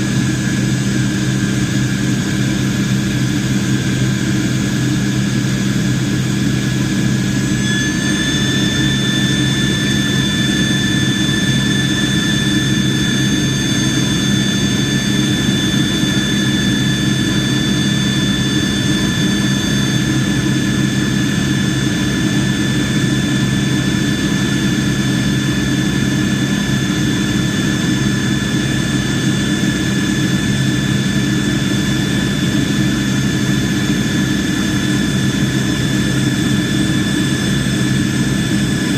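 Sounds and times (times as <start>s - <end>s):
high turbine whine: 0.0s - 38.9s
jet engine low drone: 0.0s - 38.9s.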